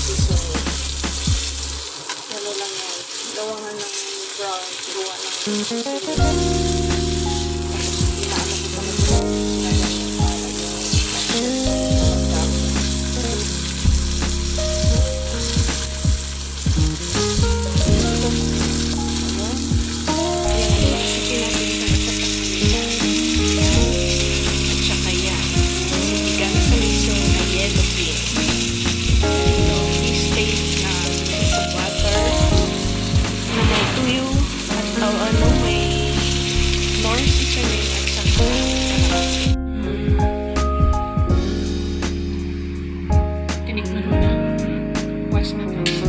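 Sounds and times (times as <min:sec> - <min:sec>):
fish sizzling in a pan: 0:00.0 - 0:39.6.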